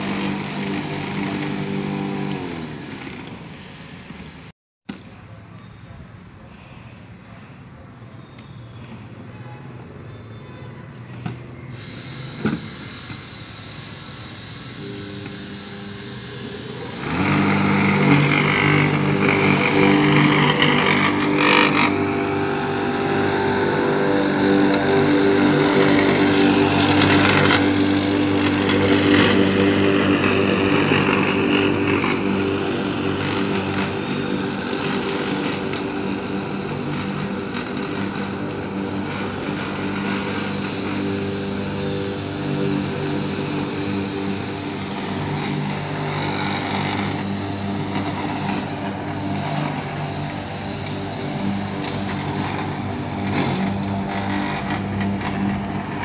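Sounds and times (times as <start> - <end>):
electric lawn mower cutting grass: 0.0 - 4.5, 11.0 - 56.0.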